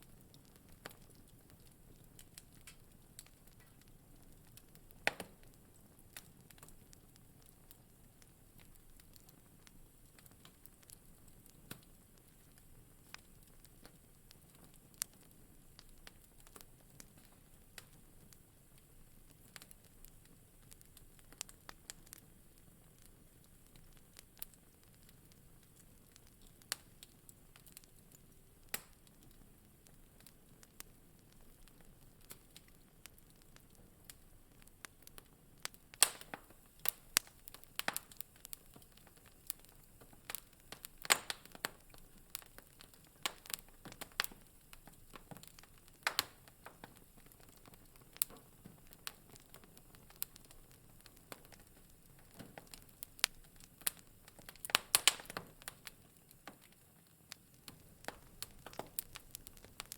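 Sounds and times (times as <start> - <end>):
faint low hiss: 0.0 - 59.9
wood fire crackling: 0.0 - 59.9.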